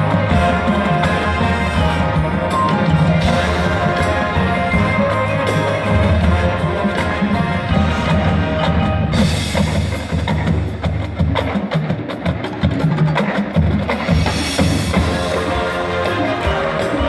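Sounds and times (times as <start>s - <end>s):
marching band brass and wind chords: 0.0s - 17.0s
rapid sharp drum strokes: 0.0s - 17.0s.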